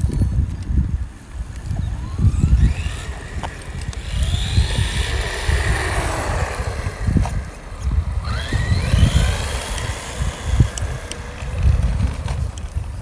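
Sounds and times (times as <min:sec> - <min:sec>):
wind rumble on microphone: 0:00.0 - 0:13.0
electric motor whine: 0:01.4 - 0:13.0.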